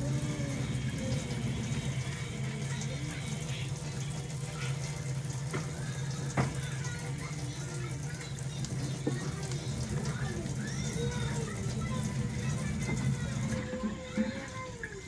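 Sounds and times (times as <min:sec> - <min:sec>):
water running and splashing in sink: 0:00.0 - 0:15.0.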